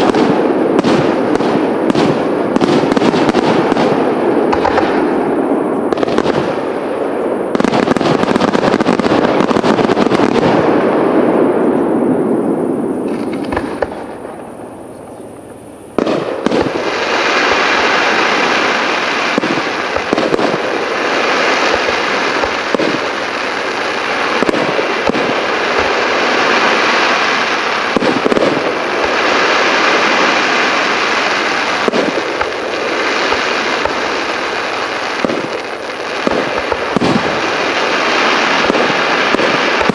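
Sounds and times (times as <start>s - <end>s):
firework shells bursting and crackling: 0.0s - 39.9s.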